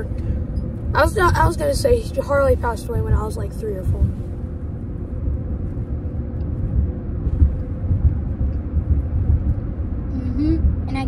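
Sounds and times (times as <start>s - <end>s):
faint hum: 0.0s - 11.0s
road and engine rumble: 0.0s - 11.0s.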